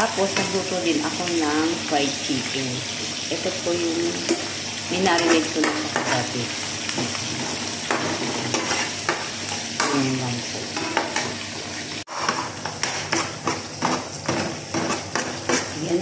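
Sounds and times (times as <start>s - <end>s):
spatula scraping frying pan: 0.0s - 1.3s, 4.0s - 16.0s
chicken sizzling in hot oil: 0.0s - 16.0s.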